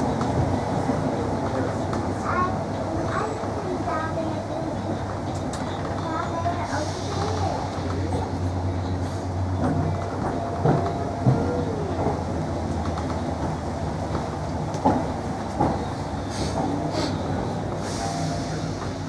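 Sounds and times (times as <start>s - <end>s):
rail running noise: 0.0s - 19.0s
train traction hum: 0.0s - 19.0s.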